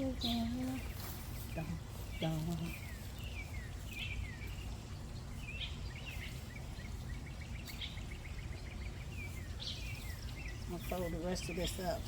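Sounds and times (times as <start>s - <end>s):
low outdoor rumble: 0.0s - 12.0s
songbirds calling: 0.0s - 12.0s.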